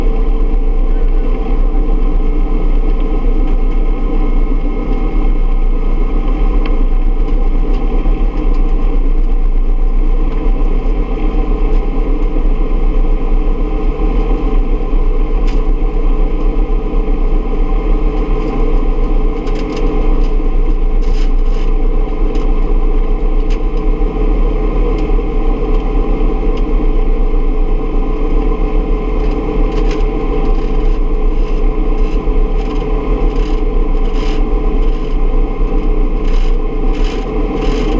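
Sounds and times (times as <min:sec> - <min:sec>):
helicopter rotor drone: 0:00.0 - 0:37.9
turbine whine: 0:00.0 - 0:37.9.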